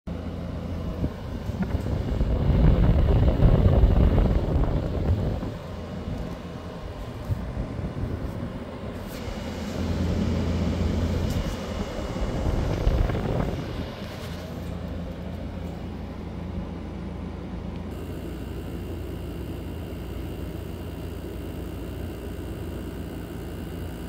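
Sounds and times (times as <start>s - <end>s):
heat pump humming: 0.1s - 24.0s.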